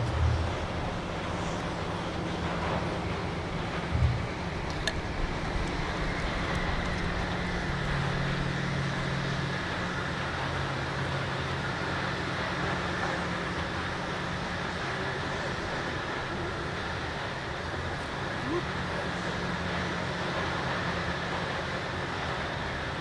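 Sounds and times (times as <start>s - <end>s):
low engine hum: 0.0s - 23.0s
traffic noise: 0.0s - 23.0s.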